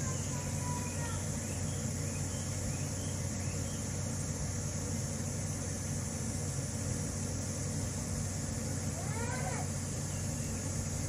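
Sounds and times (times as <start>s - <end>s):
background hiss: 0.0s - 11.0s
low mechanical hum: 0.0s - 11.0s.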